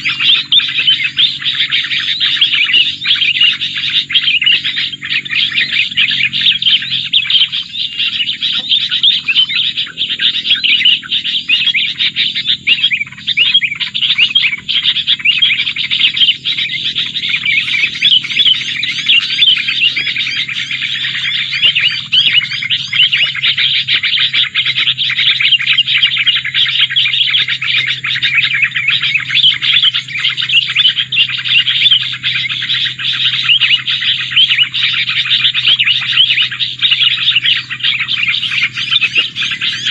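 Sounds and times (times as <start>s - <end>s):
faint low hum: 0.0s - 39.9s
songbird chirps: 0.0s - 39.9s.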